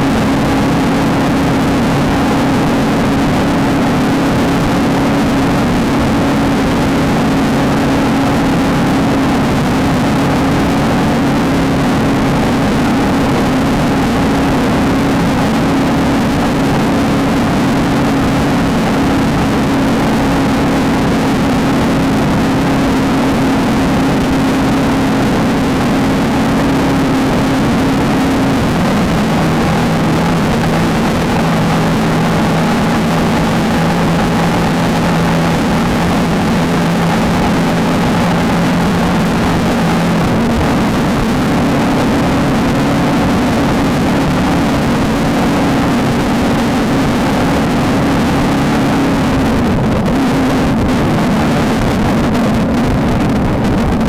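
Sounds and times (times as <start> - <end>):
engine running hard: 0.0 - 54.0
wind and terrain noise: 0.0 - 54.0.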